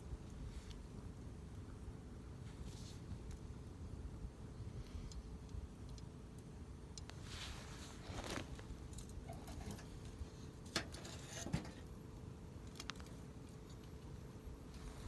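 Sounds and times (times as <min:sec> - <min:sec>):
campfire crackling: 0:00.0 - 0:15.0
fire popping: 0:00.0 - 0:15.0.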